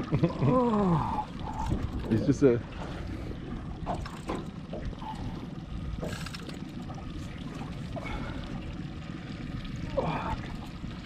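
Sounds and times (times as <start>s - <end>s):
water sloshing around boat: 0.0s - 11.0s.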